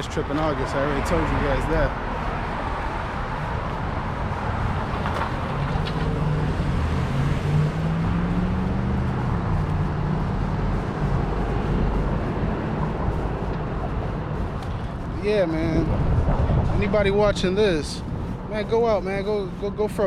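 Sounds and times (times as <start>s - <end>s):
traffic rush: 0.0s - 20.0s
vehicle engine hum: 0.0s - 20.0s.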